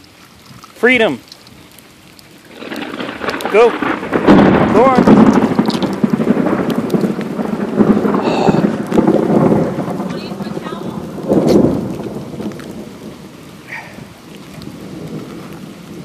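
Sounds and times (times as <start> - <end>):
steady rain: 0.0 - 16.0
low rumbling swells: 2.4 - 16.0.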